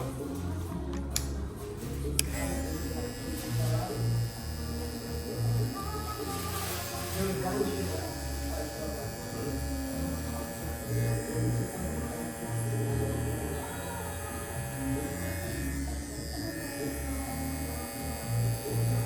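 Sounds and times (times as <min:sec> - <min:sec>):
background music bass: 0:00.0 - 0:19.0
hair clipper buzzing: 0:02.1 - 0:19.0.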